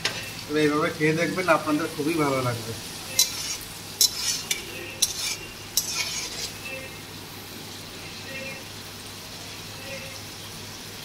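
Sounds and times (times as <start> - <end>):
prawns sizzling in oil: 0.0 - 11.0.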